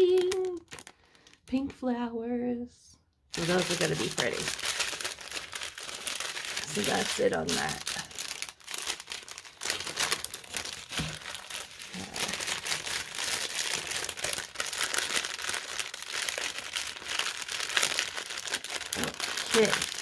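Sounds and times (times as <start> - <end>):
plastic packaging crinkling: 0.0 - 1.5, 3.3 - 20.0.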